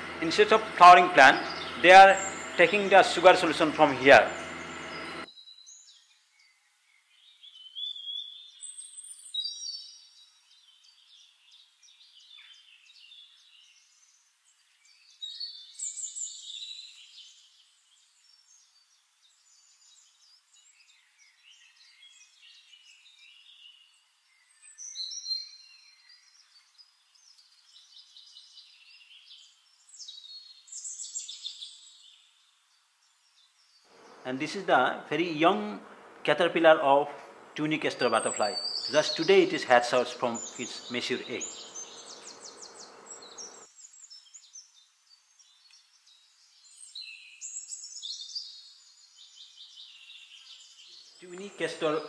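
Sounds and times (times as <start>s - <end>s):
birds twittering: 0.0s - 52.0s
small birds chirping: 0.0s - 52.0s.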